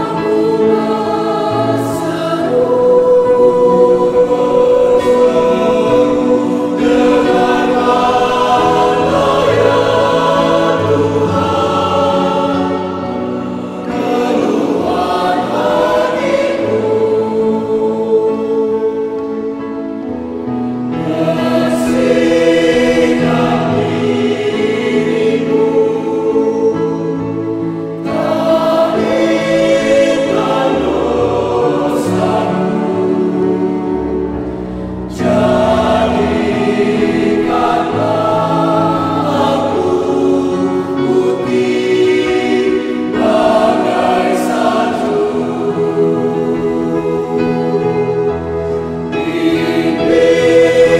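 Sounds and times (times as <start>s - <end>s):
mixed choir singing: 0.0s - 50.9s.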